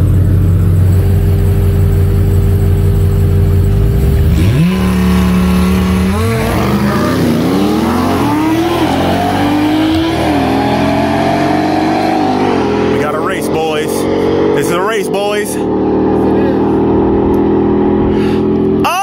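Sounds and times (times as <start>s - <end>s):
engines shifting gears: 0.0s - 18.8s
car engines revving: 0.0s - 18.9s.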